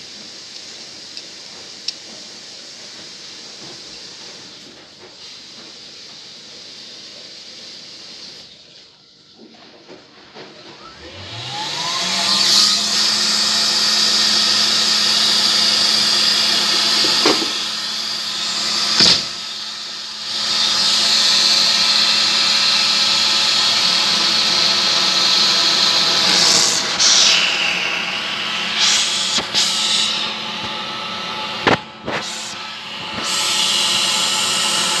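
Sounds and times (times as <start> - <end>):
vacuum cleaner running: 0.0 - 8.5, 10.3 - 35.0.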